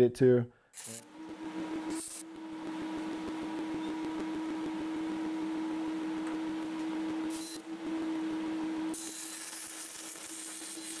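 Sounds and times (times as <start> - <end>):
welder humming: 0.8 - 11.0.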